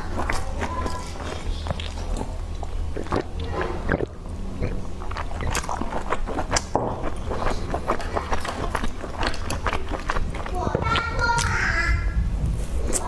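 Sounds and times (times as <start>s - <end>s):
chewing and wet mouth sounds: 0.0s - 11.7s, 12.4s - 13.0s
steady low hum: 0.0s - 13.0s
mouth clicks and smacks: 0.2s - 11.6s.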